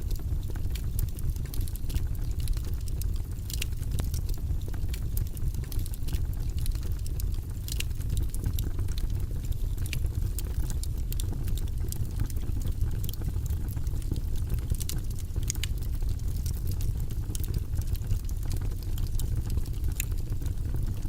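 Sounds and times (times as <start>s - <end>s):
fireplace fire crackling: 0.0s - 21.0s
low rumble of flames: 0.0s - 21.0s.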